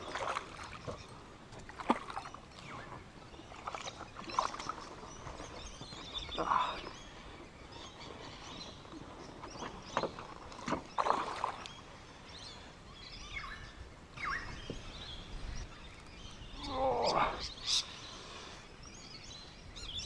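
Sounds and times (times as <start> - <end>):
birds calling and chirping: 0.0 - 20.0
outdoor background noise: 0.0 - 20.0.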